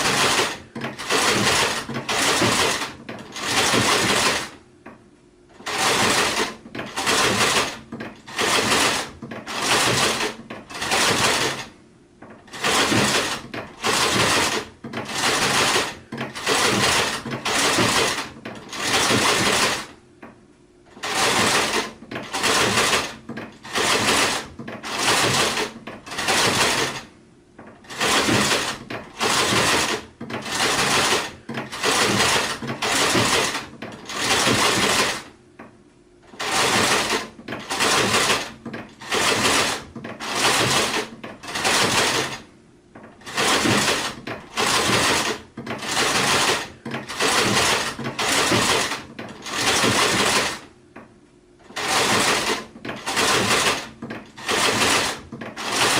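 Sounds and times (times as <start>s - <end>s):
sewing machine stitching: 0.0s - 4.6s, 5.5s - 20.0s, 20.9s - 35.4s, 36.2s - 50.7s, 51.6s - 55.9s.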